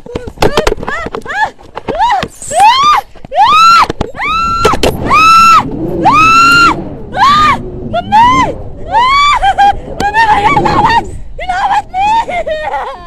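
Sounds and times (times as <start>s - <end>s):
woman screaming: 1.3s - 13.0s.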